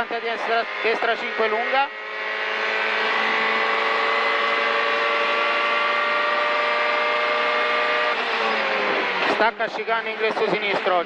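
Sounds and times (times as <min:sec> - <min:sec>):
rally car engine at full throttle: 0:00.0 - 0:11.0.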